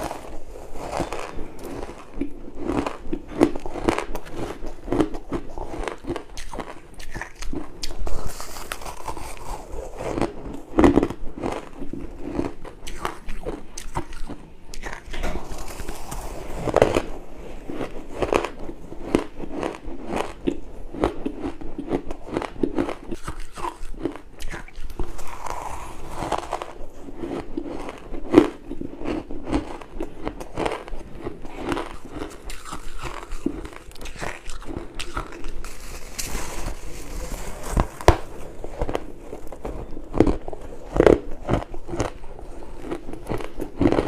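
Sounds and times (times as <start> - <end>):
ice being chewed: 0.0 - 44.0.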